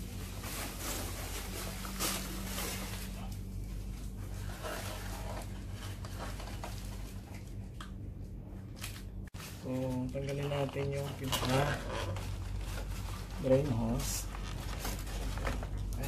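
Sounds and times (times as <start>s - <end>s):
plastic rustling and scraping: 0.0s - 7.7s, 8.7s - 16.0s
low electrical hum: 0.0s - 16.0s.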